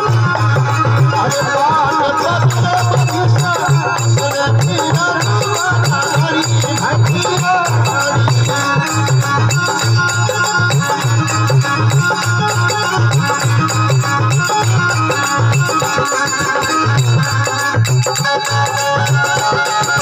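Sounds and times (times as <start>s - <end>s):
pulsing drum beat: 0.0s - 20.0s.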